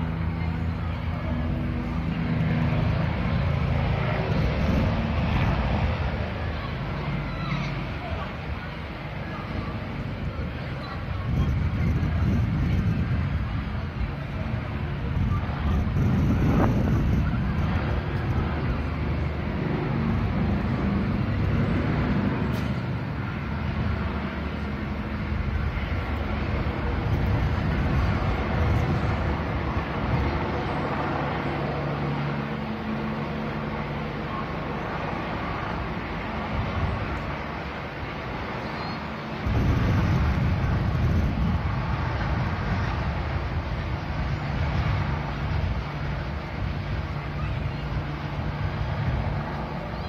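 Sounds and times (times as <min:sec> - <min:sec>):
faint voices: 0:00.0 - 0:50.0
street noise rumble: 0:00.0 - 0:50.0.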